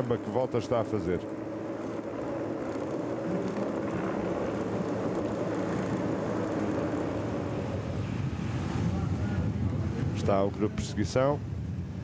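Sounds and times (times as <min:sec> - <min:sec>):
road noise: 0:00.0 - 0:12.0
vehicle engines droning: 0:00.0 - 0:12.0.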